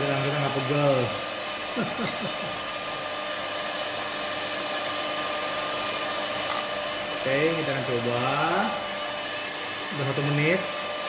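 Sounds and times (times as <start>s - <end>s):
electric hand mixer whipping: 0.0s - 11.0s.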